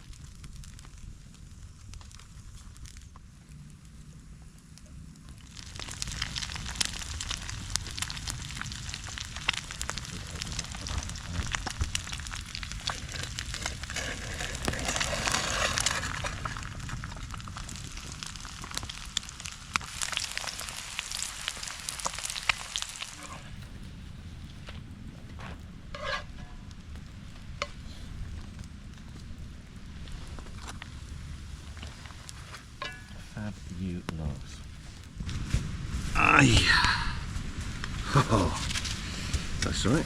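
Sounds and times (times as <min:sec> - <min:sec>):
bread frying in a pan: 0:00.0 - 0:40.0.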